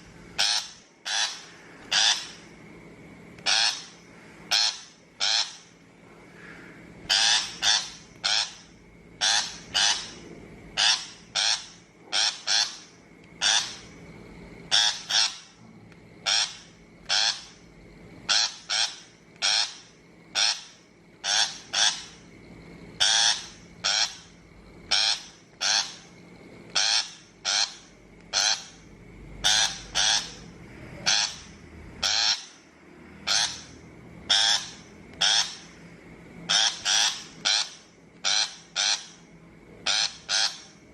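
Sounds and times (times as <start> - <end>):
shrike harsh grating calls: 0.3 - 2.5, 3.4 - 5.8, 6.4 - 14.0, 14.7 - 15.6, 16.2 - 22.3, 23.0 - 35.9, 36.5 - 40.9.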